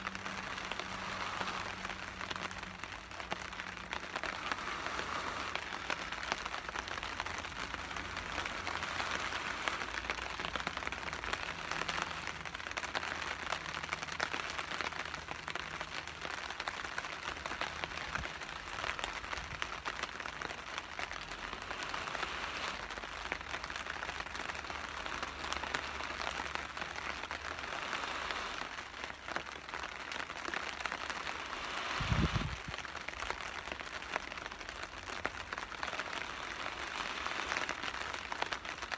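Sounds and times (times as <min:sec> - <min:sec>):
rain pattering on a tarp: 0:00.0 - 0:38.9.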